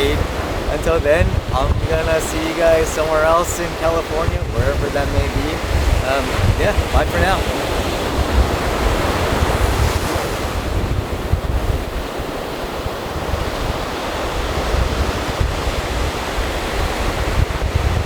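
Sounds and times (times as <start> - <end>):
ocean surf washing onto beach: 0.0 - 18.0
wind buffeting microphone: 0.0 - 18.0.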